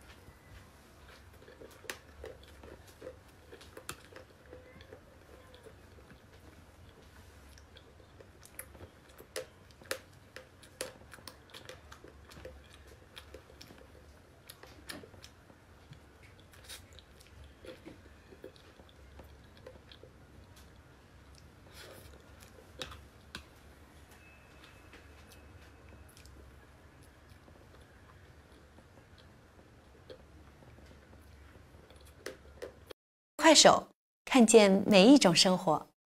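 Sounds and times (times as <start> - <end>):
chewing and biting cake: 0.1 - 32.9.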